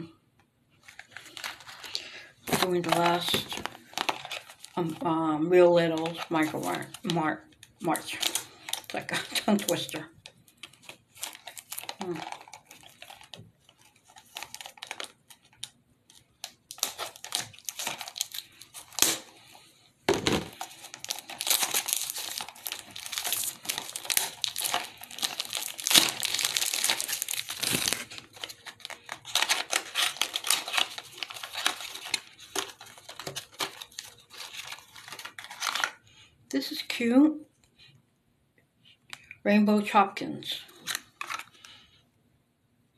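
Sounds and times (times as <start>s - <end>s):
plastic wrapper crinkling and tearing: 0.8s - 36.3s, 40.6s - 42.0s.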